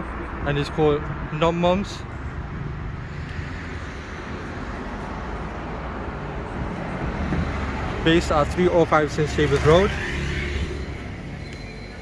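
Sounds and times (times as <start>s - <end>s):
passing cars rumble and hiss: 0.0s - 12.0s.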